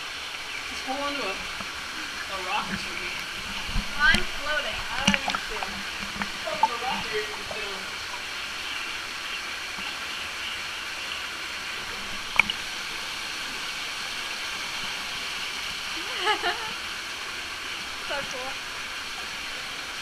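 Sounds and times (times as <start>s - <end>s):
waterfall pouring into pool: 0.0s - 20.0s.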